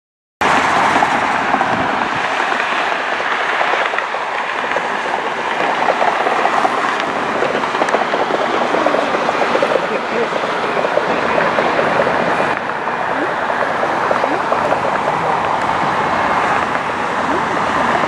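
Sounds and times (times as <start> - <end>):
jet engines roaring: 0.4 - 18.0.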